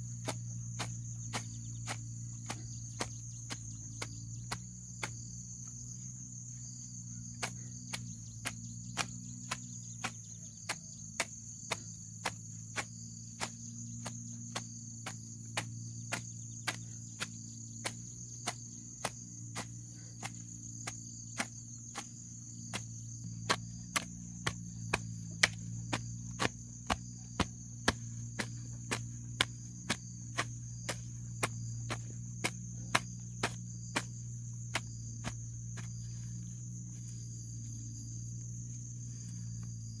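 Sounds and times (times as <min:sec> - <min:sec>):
hoe chopping into soil: 0:00.0 - 0:38.2
high-pitched insect chorus: 0:00.0 - 0:40.0.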